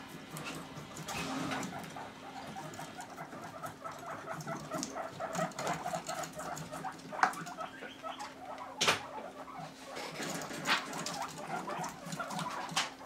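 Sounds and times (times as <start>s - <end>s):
guinea pigs scrabbling on wood: 0.0s - 13.0s.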